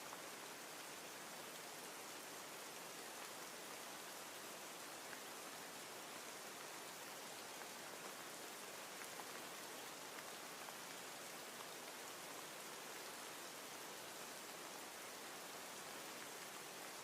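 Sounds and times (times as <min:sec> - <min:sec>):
faint raindrops: 0:00.0 - 0:17.0
soft rain hiss: 0:00.0 - 0:17.0.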